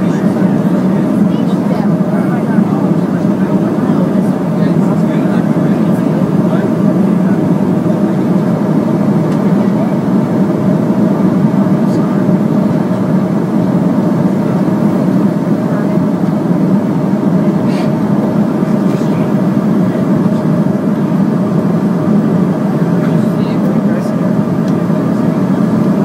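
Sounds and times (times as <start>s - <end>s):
jet cabin engine and airflow drone: 0.0s - 26.0s.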